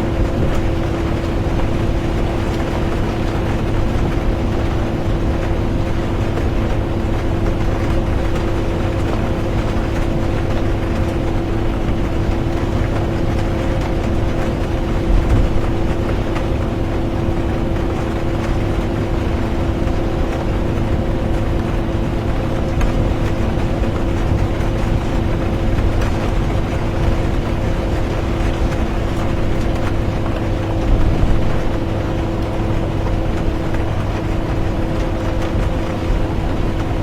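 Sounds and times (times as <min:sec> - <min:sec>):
bus engine and road drone: 0:00.0 - 0:37.0
constant hum: 0:00.0 - 0:37.0
rain on a bus: 0:00.0 - 0:37.0.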